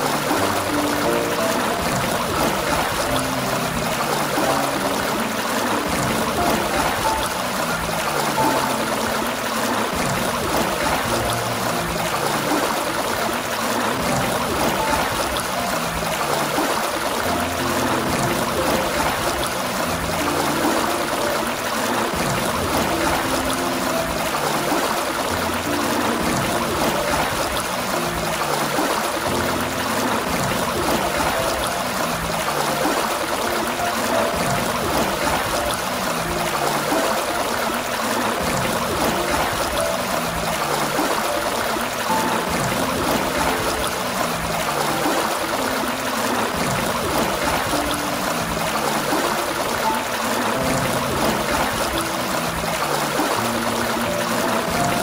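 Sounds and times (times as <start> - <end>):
fountain water gushing: 0.0 - 55.0.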